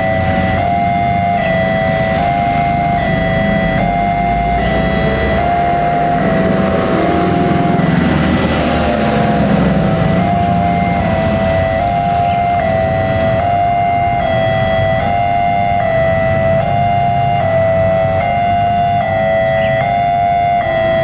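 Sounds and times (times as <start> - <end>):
level crossing alarm warbling: 0.0 - 21.0
passing traffic rumble: 0.0 - 21.0.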